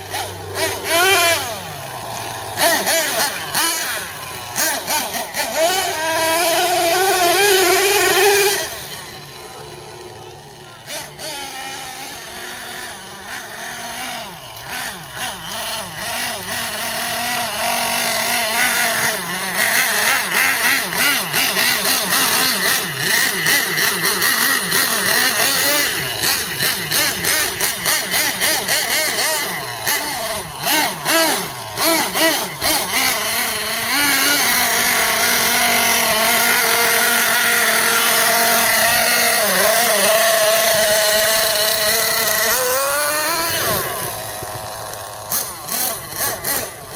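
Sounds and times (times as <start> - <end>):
small nitro engine running high: 0.0 - 46.9.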